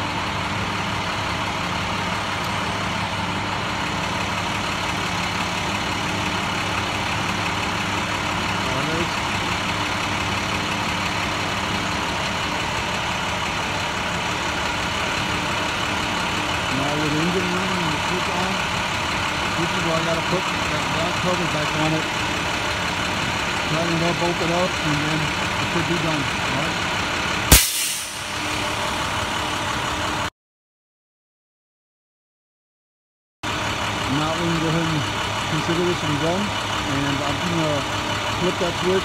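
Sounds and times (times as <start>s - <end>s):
bus engine idling: 0.0s - 30.3s, 33.4s - 39.0s.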